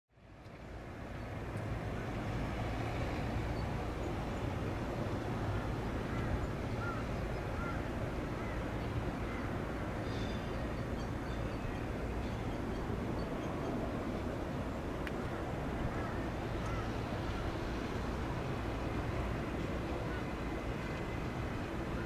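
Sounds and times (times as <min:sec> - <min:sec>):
outdoor background rumble: 0:00.2 - 0:22.0.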